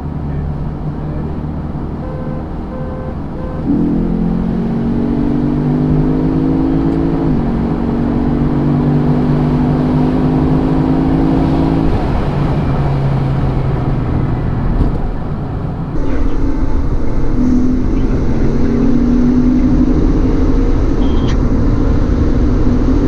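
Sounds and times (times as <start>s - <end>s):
car engine accelerating hard: 0.0s - 23.0s
road and wind noise: 0.0s - 23.0s.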